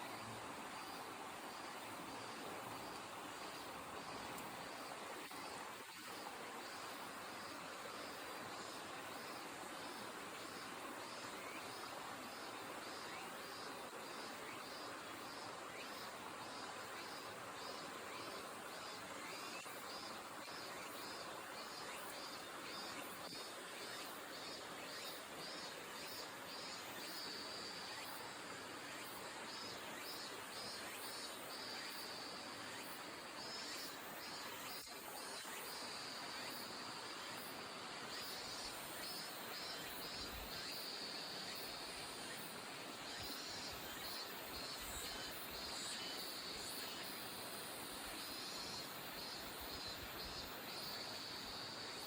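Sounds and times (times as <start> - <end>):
steady outdoor hiss: 0.0 - 52.0.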